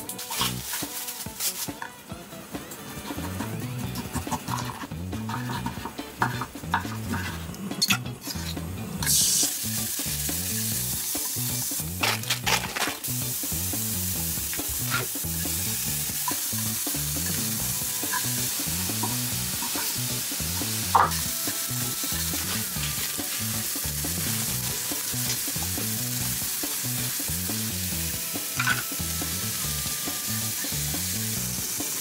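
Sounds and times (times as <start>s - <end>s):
food sizzling in hot oil: 0.0s - 7.4s, 8.2s - 32.0s.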